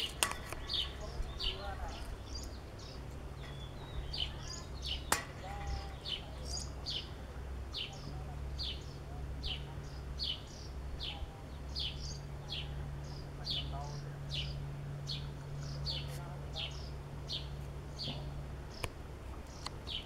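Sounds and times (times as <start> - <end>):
low steady hum: 0.0 - 20.0
small bird chirping: 0.0 - 20.0.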